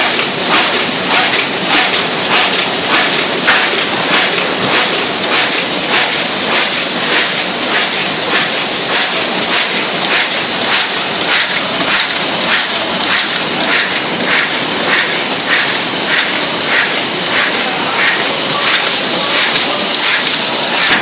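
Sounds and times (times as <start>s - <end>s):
die-cutting machine strokes: 0.0s - 21.0s
steady rushing noise: 0.0s - 21.0s.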